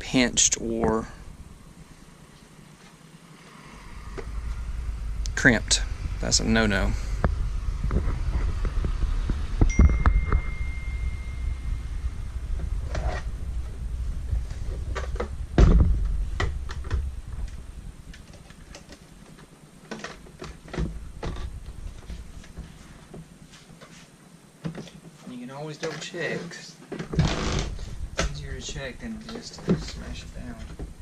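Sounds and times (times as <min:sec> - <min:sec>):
low handling rumble: 0:00.0 - 0:02.6, 0:03.4 - 0:19.3, 0:20.3 - 0:22.9, 0:27.2 - 0:31.0.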